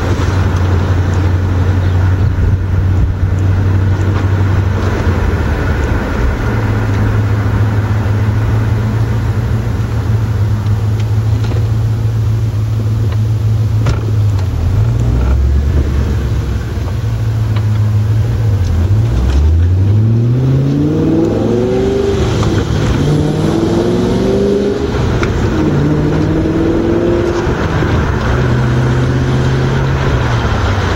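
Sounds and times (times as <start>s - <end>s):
car engine droning and revving: 0.0s - 30.9s.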